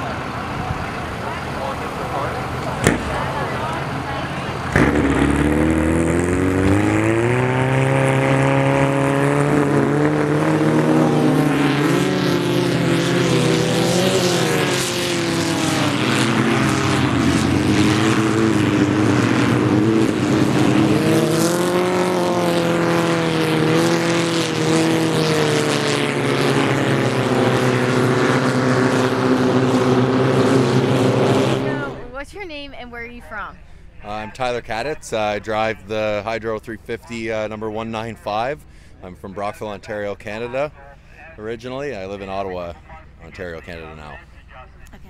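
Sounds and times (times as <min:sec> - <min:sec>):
race boat engine running: 0:00.0 - 0:32.2, 0:34.1 - 0:45.0.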